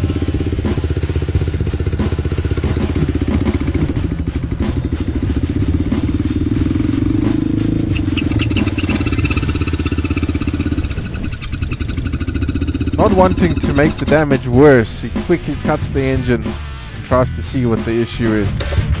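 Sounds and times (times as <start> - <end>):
engine mechanical clatter: 0.0 - 15.8
dirt bike engine running: 0.0 - 19.0.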